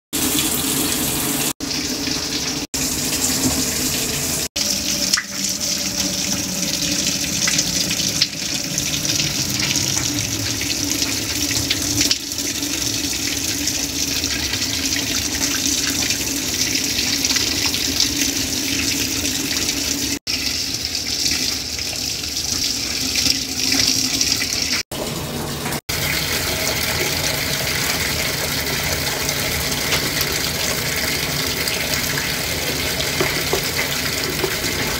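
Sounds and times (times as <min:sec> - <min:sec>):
water filling washing machine drum: 0:00.2 - 0:34.9.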